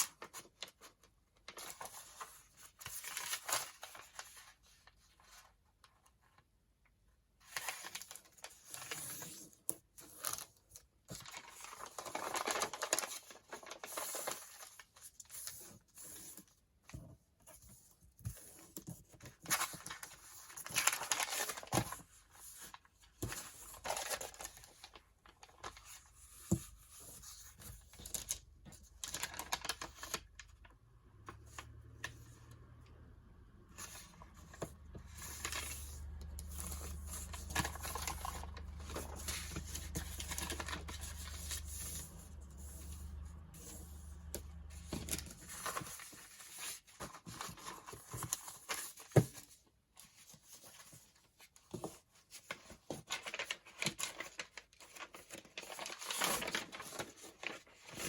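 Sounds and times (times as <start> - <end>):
paper rustling and tapping: 7.5 - 32.6, 33.8 - 58.0.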